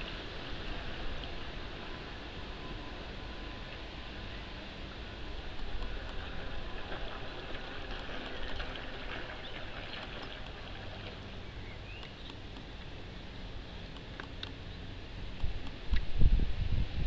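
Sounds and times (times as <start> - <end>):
wind rumbling on microphone: 0.0 - 12.6, 13.3 - 17.0
faint open-air ambience: 0.0 - 17.0.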